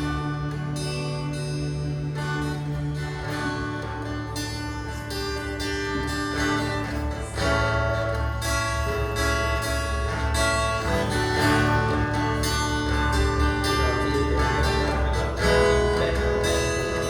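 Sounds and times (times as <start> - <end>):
steady bass line: 0.0 - 17.0
worship music with guitar: 0.0 - 17.0.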